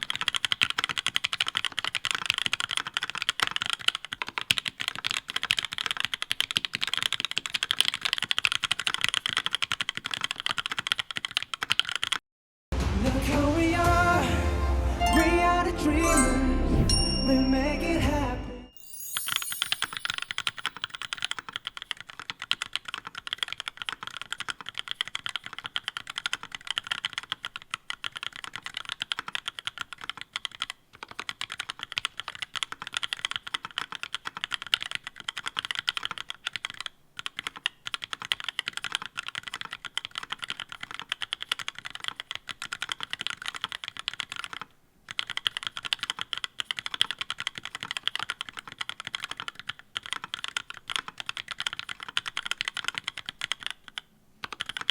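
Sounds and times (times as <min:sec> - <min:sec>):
fast typing on mechanical keyboard: 0:00.0 - 0:12.2, 0:19.1 - 0:54.9.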